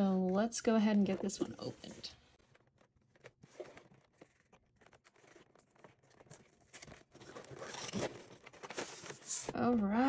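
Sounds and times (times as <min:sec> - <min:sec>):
rustling card and plastic packaging: 0:01.0 - 0:10.0.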